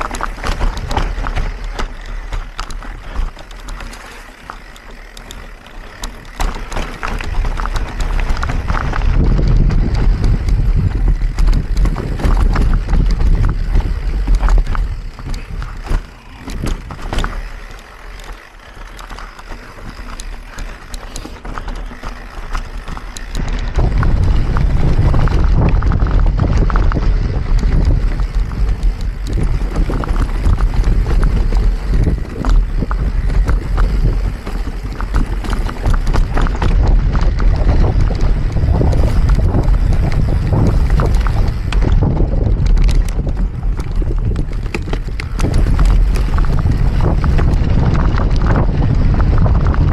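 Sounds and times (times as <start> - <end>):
bike rattling over rough trail: 0.0 - 49.9
wind buffeting microphone: 0.0 - 49.9.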